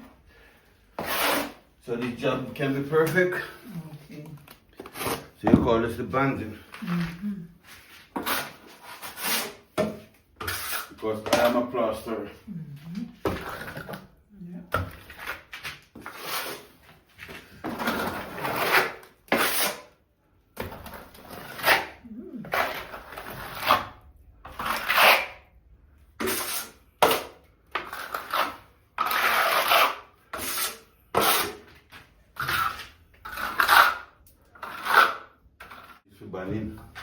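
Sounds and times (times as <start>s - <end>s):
tool scraping wet plaster: 0.9s - 3.6s, 4.8s - 37.0s.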